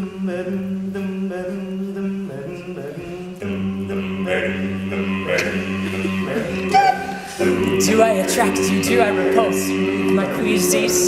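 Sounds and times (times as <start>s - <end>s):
male a cappella singing: 0.0s - 11.0s.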